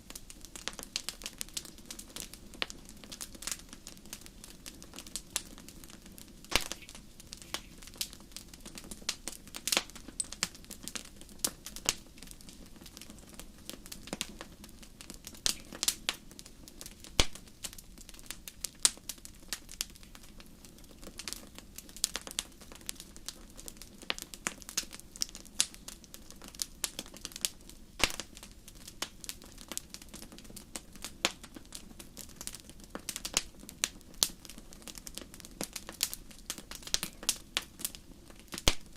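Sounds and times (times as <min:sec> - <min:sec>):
steady low hiss: 0:00.0 - 0:38.9
wood fire crackling: 0:00.0 - 0:38.9.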